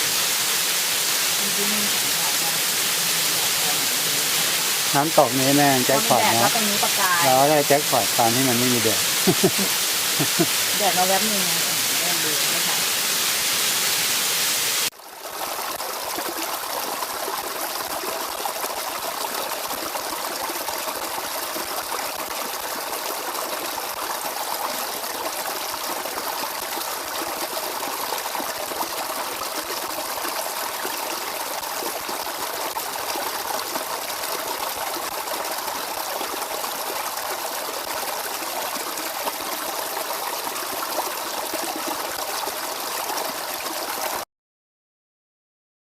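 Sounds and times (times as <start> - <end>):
rush of falling water: 0.0 - 44.2
stream water babbling: 0.0 - 44.2.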